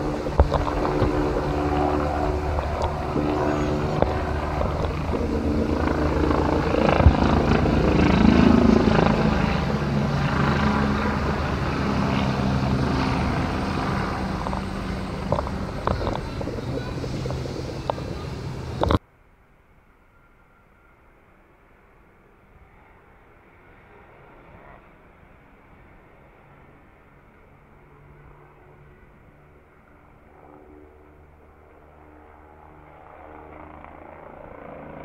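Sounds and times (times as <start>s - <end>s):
helicopter flying overhead: 0.0s - 35.0s.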